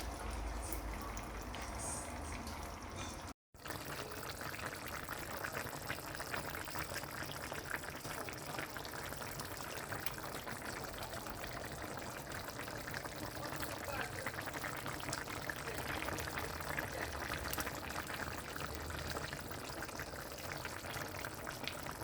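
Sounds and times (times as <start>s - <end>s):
curry bubbling in a cooking pot: 0.0s - 22.0s.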